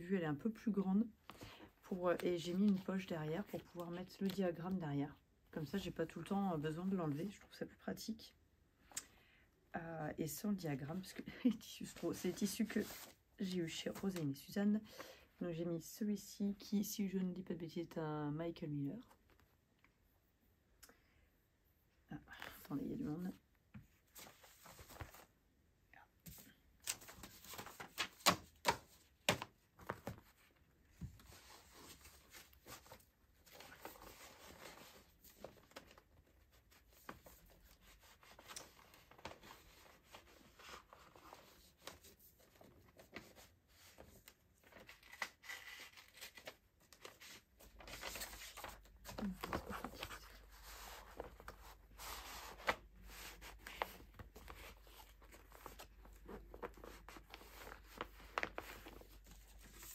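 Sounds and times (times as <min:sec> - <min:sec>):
faint rustling and handling: 0:00.3 - 0:07.7, 0:10.8 - 0:15.4, 0:22.2 - 0:59.9.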